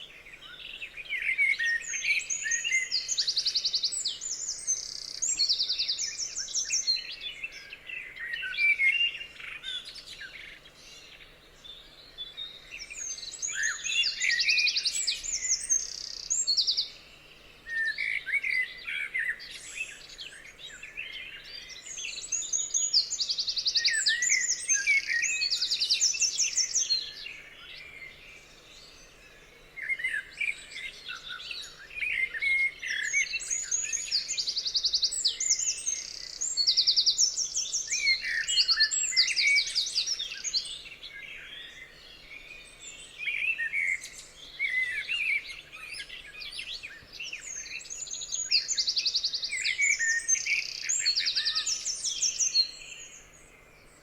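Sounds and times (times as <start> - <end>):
songbirds singing and trilling: 0.0 - 54.0.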